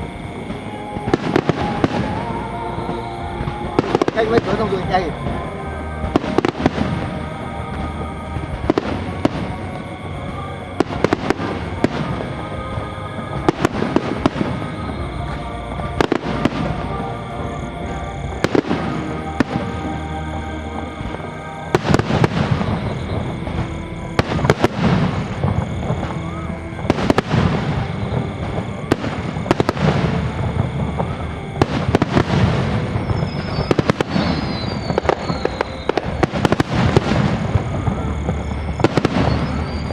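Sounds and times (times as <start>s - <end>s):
fireworks bangs and crackles: 0.0s - 39.9s
music playing: 0.0s - 39.9s.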